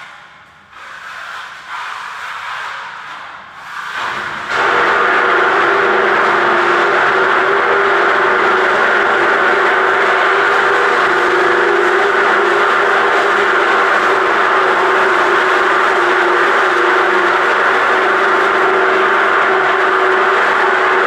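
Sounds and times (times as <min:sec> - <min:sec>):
machine running with hum: 0:04.0 - 0:21.0.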